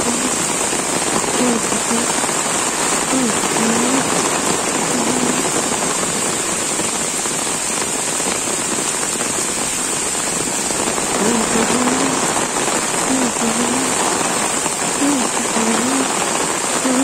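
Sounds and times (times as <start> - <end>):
heavy rain on concrete roof and trees: 0.0 - 17.0.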